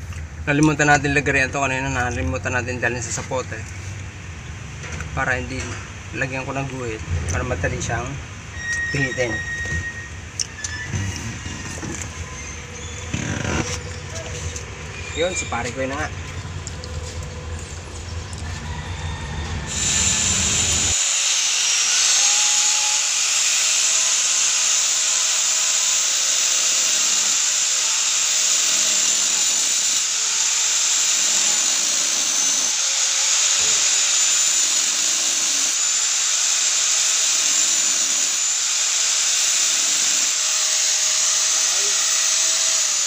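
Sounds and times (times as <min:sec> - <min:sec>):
angle grinder cutting metal: 0:07.6 - 0:43.0.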